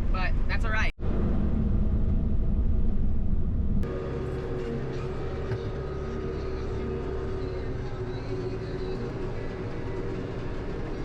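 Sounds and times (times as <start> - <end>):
vehicle engine running: 0.3 - 11.0.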